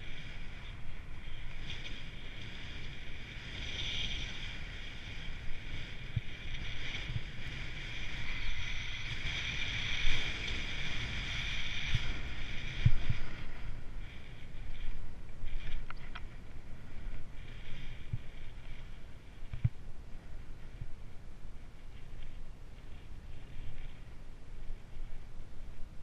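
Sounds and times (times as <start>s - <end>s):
skis sliding on snow: 0.0s - 25.8s
wind rumble on microphone: 0.0s - 26.0s.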